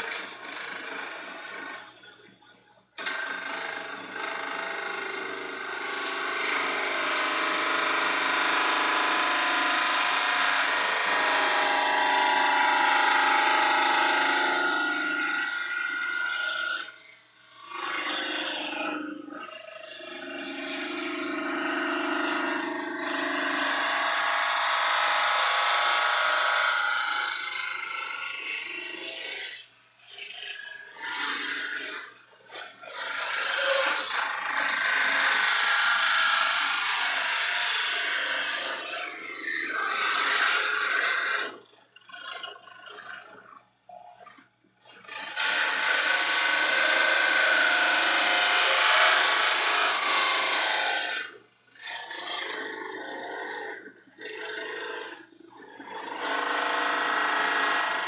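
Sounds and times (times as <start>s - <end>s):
bandsaw cutting plastic: 0.0s - 2.1s, 3.0s - 58.0s.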